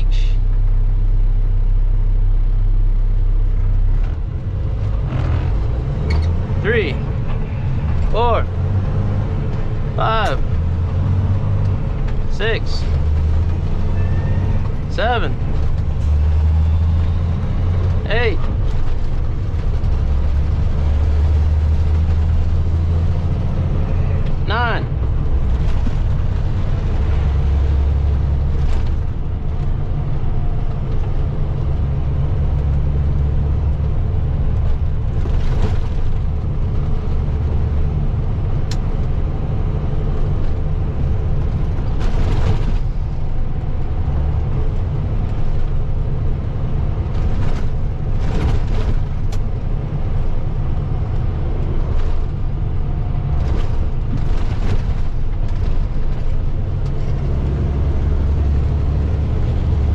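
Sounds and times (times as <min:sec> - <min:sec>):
road noise: 0:00.0 - 0:59.9
truck diesel engine rumble: 0:00.0 - 0:59.9.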